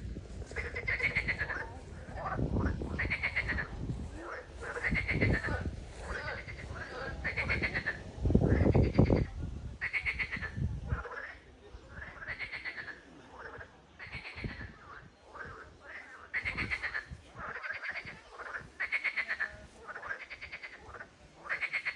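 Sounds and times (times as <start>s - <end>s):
frogs croaking: 0.0s - 21.9s.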